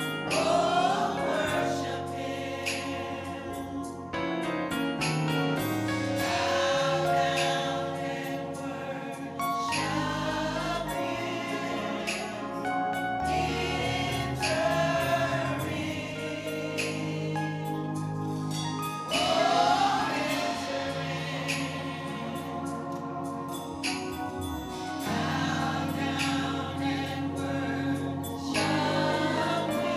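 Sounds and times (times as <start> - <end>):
gospel choir singing: 0.0 - 29.9
instrumental accompaniment with bass: 0.0 - 29.9.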